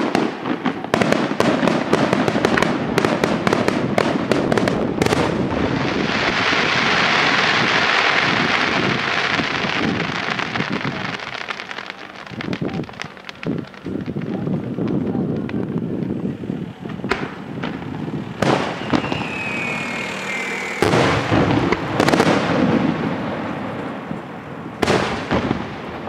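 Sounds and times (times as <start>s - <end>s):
firework bangs: 0.0s - 26.0s
firework shell crackle: 0.0s - 26.0s.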